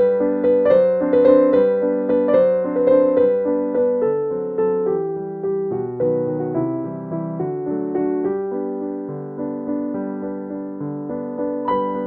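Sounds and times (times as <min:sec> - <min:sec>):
slow gentle piano melody: 0:00.0 - 0:12.0.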